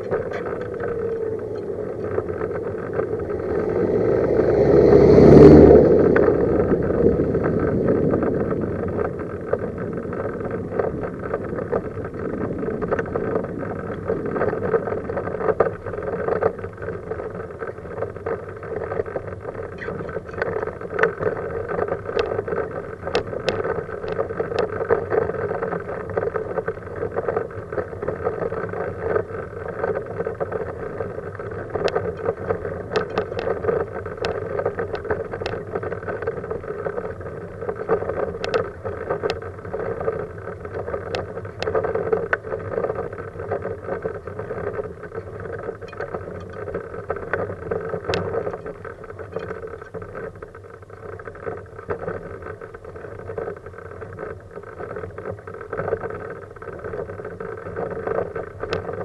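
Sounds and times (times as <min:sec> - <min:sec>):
sharp clicks and ticks: 0:00.0 - 0:59.0
wheelchair rolling on asphalt: 0:00.0 - 0:59.0.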